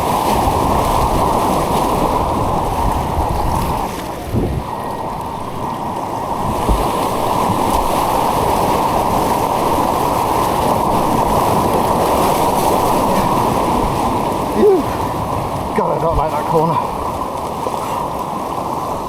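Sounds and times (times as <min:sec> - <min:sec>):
white water rushing: 0:00.0 - 0:19.0.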